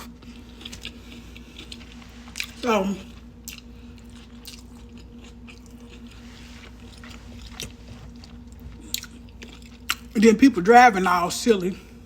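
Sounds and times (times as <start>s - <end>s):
person chewing food: 0.0s - 10.2s
faint steady hum: 0.0s - 12.0s.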